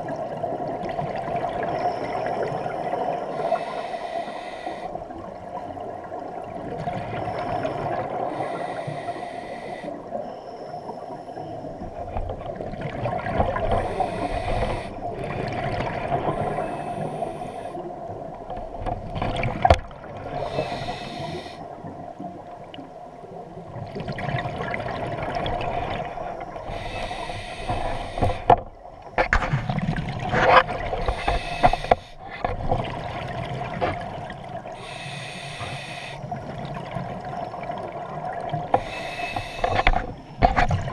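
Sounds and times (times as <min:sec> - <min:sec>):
underwater exhaled bubbles: 0:00.0 - 0:40.9.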